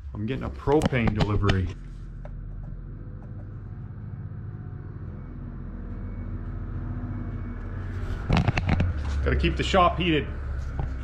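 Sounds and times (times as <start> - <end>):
truck engine low drone: 0.0 - 11.0.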